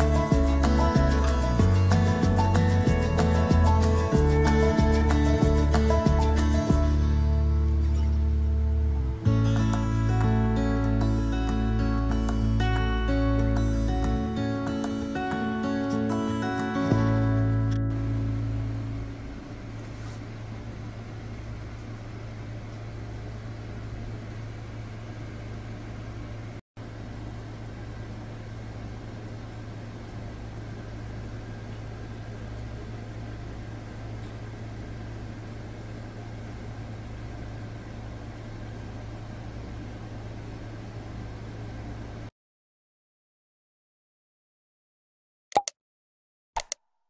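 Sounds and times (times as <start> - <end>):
steady low hum: 0.0 - 42.3.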